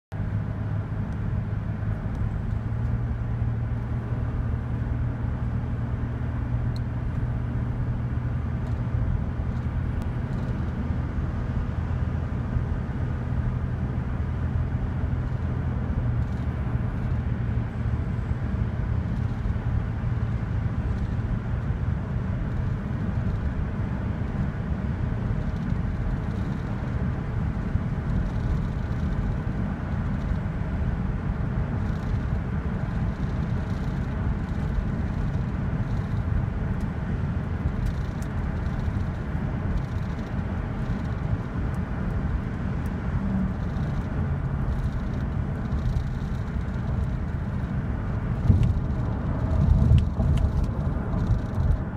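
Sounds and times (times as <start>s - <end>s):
car cabin engine and road hum: 0.1s - 51.9s.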